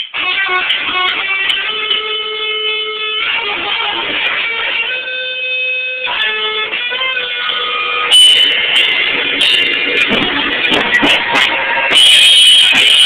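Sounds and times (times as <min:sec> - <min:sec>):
electric guitar ringing notes: 0:00.0 - 0:13.0
live rock band playing: 0:00.0 - 0:13.0.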